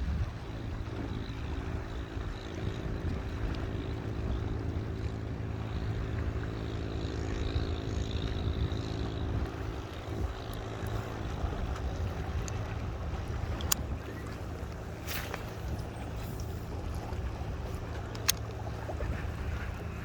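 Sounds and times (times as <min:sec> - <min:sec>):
wind noise: 0:00.0 - 0:04.9, 0:07.3 - 0:20.0
small boat engine humming: 0:00.0 - 0:20.0
water noise: 0:00.0 - 0:20.0.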